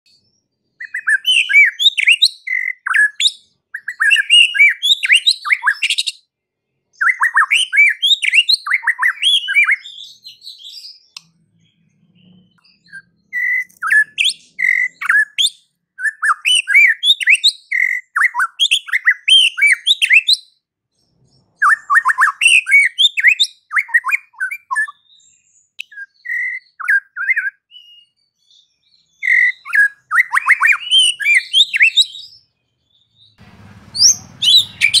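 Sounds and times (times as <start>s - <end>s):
bird singing whistled trills: 0.1s - 6.3s, 6.9s - 35.0s.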